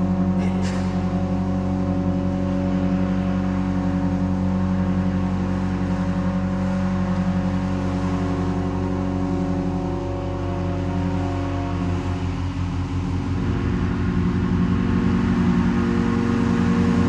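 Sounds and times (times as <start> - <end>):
pipe organ low pulsing tones: 0.0 - 17.0.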